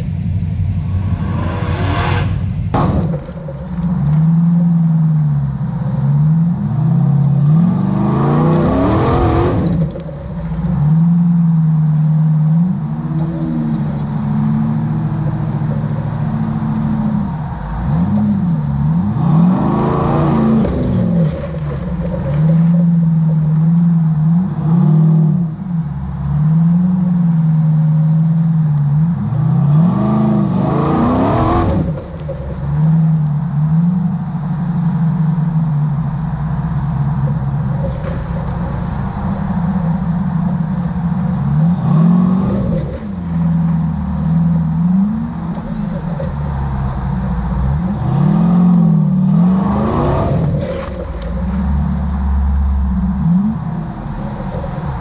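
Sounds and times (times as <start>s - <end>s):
buggy engine revving under load: 0.0s - 55.0s.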